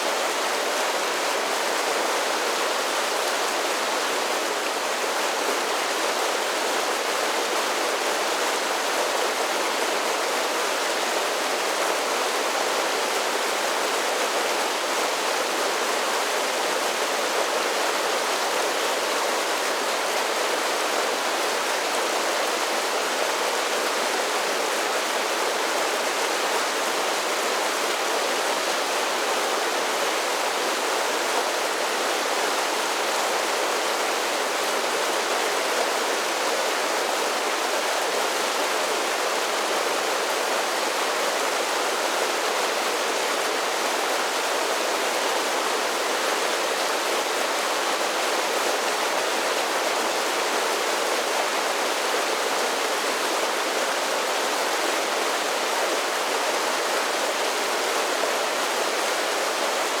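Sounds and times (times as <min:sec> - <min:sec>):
creek water cascading over waterfalls: 0:00.0 - 1:00.0.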